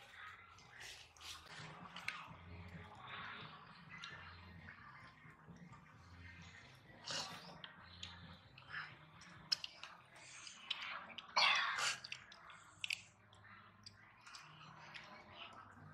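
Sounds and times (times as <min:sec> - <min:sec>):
child chewing and smacking: 0:00.0 - 0:15.9.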